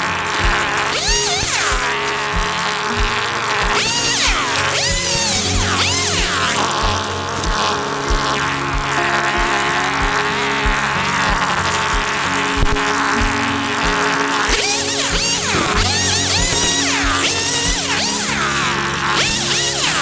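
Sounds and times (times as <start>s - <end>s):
background music beat: 0.0s - 20.0s
chainsaw cutting: 0.0s - 20.0s.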